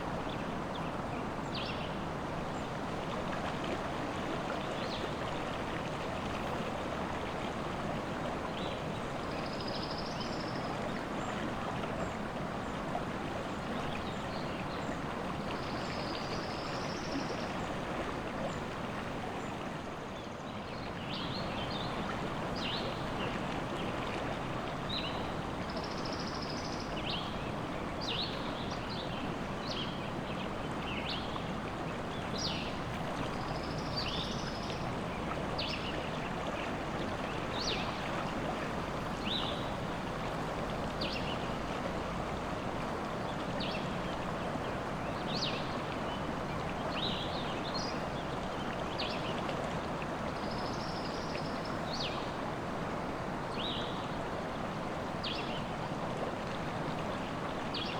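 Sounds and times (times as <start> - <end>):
river water running: 0.0 - 57.9.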